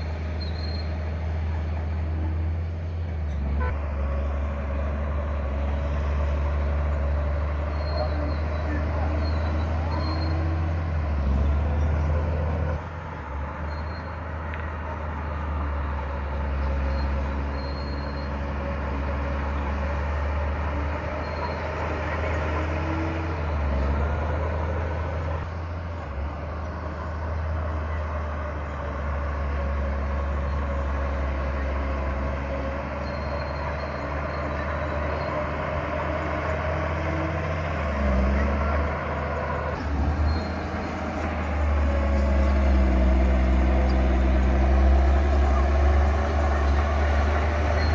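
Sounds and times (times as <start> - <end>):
bulldozer diesel engine under load: 0.0 - 47.9
bulldozer pushing stone: 0.0 - 47.9.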